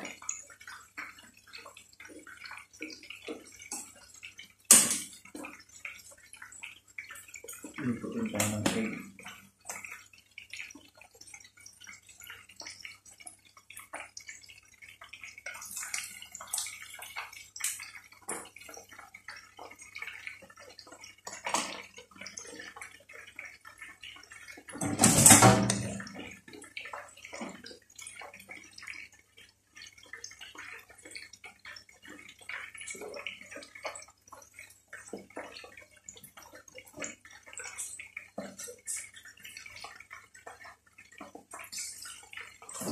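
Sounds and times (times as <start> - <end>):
oil crackling and popping: 0.0 - 42.9.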